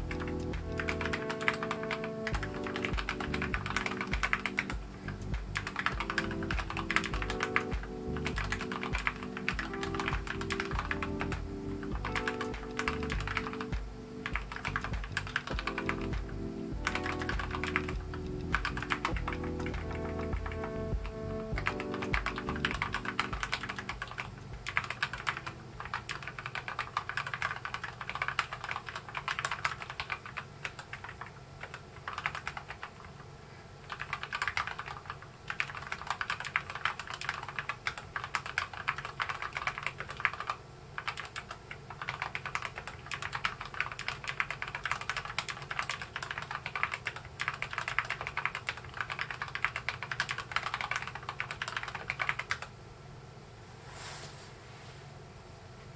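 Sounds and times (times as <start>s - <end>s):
mechanical keyboard typing: 0.0s - 33.2s, 33.8s - 52.7s.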